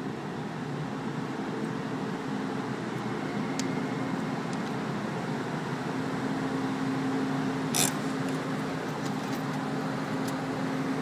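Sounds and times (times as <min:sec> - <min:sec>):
vehicle engines and ship machinery hum: 0:00.0 - 0:11.0.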